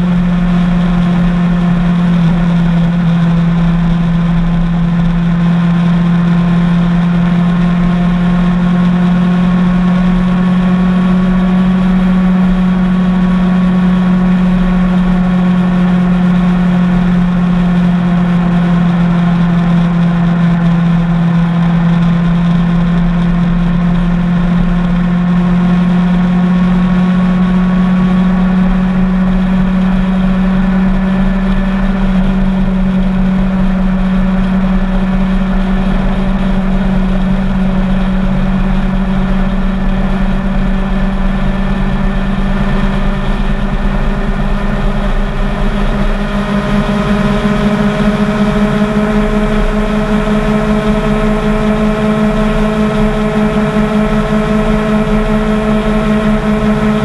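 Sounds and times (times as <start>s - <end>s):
motorcycle engine droning: 0.0s - 57.0s
road noise: 0.0s - 57.0s.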